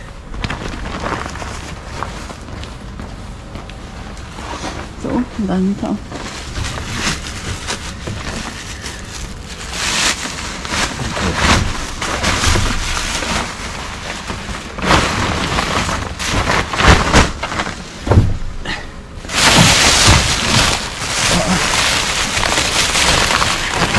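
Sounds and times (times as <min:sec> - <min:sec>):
plastic bags crinkling: 0:00.0 - 0:03.0, 0:04.0 - 0:23.9.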